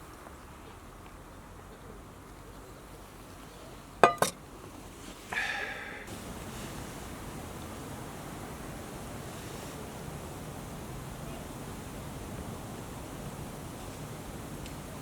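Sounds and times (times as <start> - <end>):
quiet outdoor background: 0.0 - 15.0.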